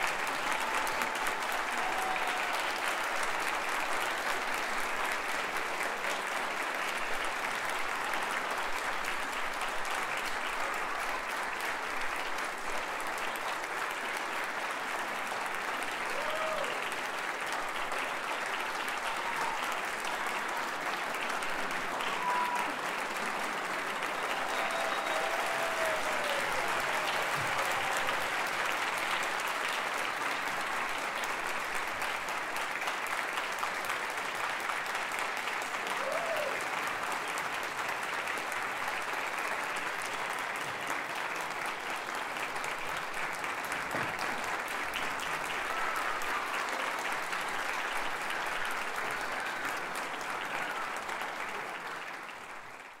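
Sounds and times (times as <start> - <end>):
audience applauding: 0.0 - 53.0.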